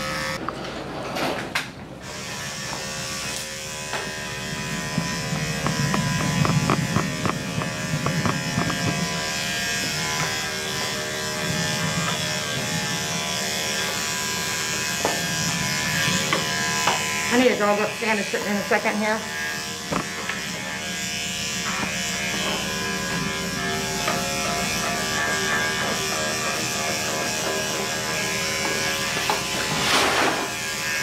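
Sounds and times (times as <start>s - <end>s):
electric clippers running: 0.0s - 0.4s, 2.0s - 31.0s.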